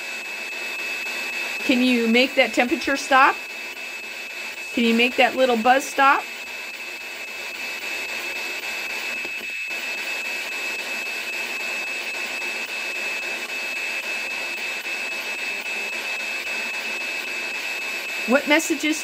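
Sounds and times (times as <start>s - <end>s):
high-pitched buzz: 0.0s - 19.0s.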